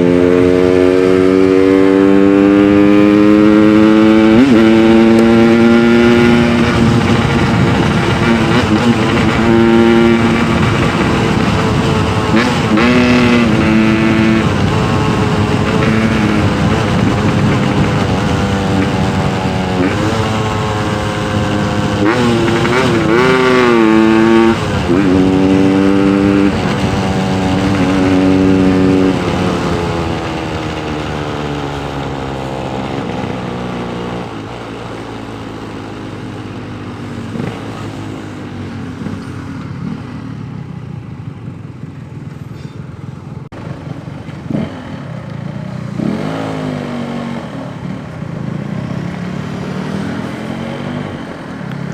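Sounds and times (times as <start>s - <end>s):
motorcycle engine revving: 0.0s - 41.9s, 43.4s - 51.9s.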